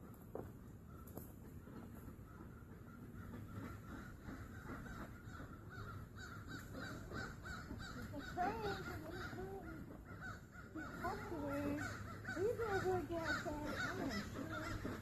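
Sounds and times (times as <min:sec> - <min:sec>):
poultry calls: 0:00.6 - 0:15.0
guinea fowl calling: 0:00.8 - 0:15.0.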